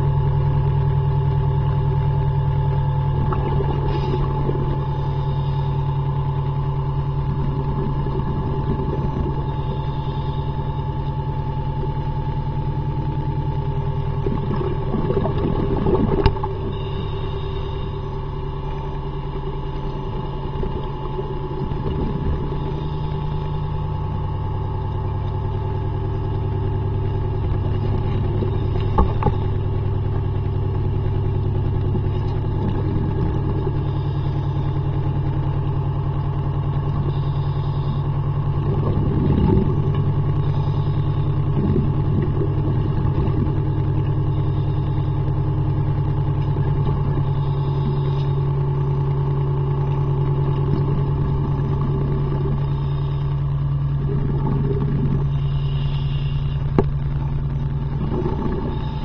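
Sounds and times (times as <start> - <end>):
underwater boat engine drone: 0.0 - 59.0.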